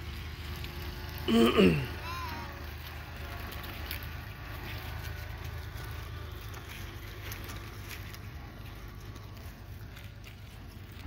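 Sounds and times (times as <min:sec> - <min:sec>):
tractor engine idling: 0:00.0 - 0:11.0
sheep chewing crunchy vegetables: 0:02.1 - 0:11.0.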